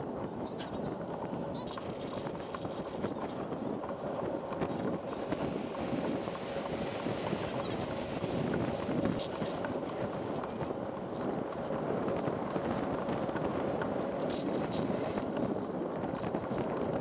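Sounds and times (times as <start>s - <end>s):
bicycle tyre and wind rumble: 0.0s - 17.0s.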